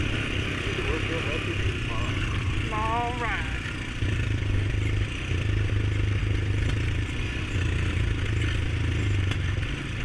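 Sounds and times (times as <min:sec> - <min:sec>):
quad engine droning: 0:00.0 - 0:10.0.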